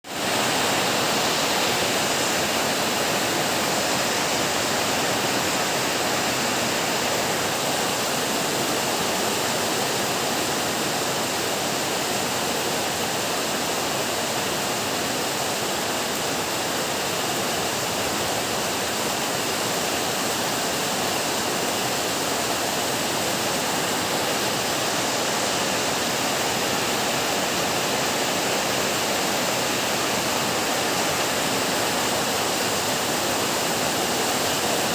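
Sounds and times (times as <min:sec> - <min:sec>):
heavy rain downpour: 0:00.0 - 0:34.9.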